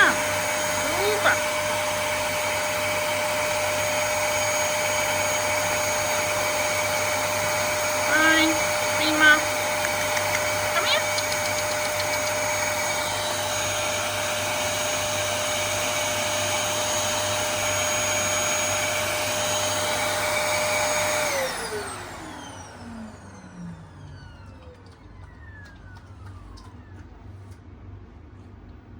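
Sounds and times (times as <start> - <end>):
vacuum cleaner motor whine: 0.0 - 27.6.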